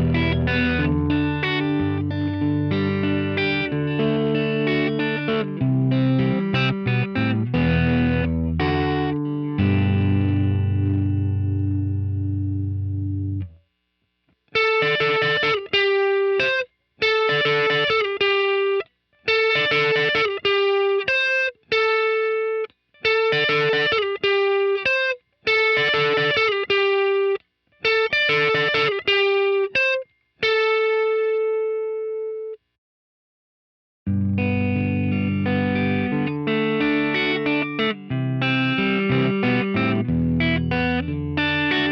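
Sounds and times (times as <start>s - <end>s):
electric guitar chord ringing: 0.0s - 13.6s, 14.6s - 32.6s, 34.1s - 41.9s
electric guitar riff: 0.0s - 13.6s, 14.5s - 32.6s, 34.1s - 41.9s.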